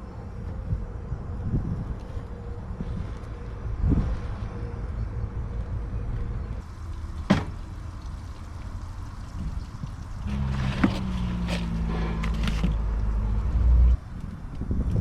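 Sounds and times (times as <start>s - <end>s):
distant freeway traffic rumble: 0.0s - 15.0s.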